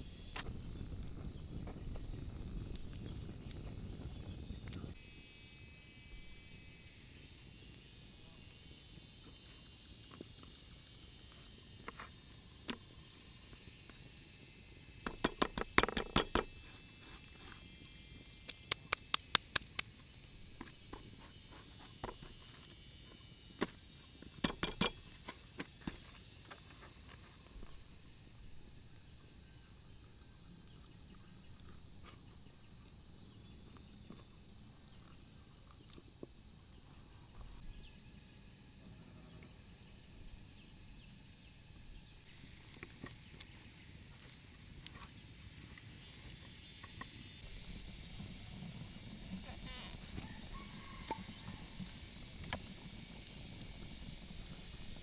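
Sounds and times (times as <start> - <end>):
high insect chorus: 0.0 - 55.0.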